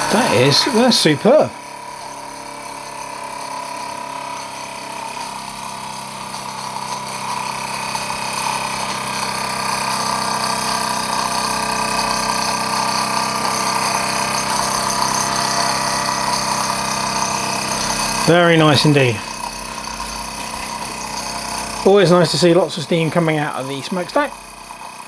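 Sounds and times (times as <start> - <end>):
model steam engine running: 0.0 - 25.0.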